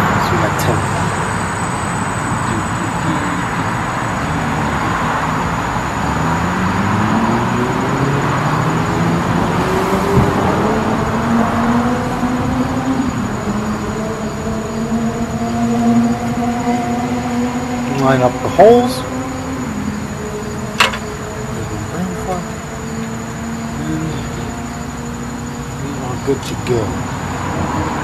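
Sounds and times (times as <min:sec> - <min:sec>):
small engine droning: 0:00.0 - 0:28.0.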